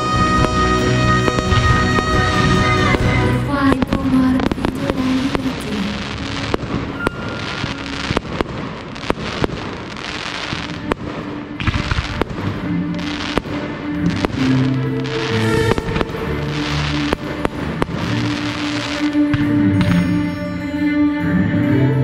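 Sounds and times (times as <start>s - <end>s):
fireworks bangs and crackles: 0.0s - 20.5s
music with held notes: 0.0s - 22.0s.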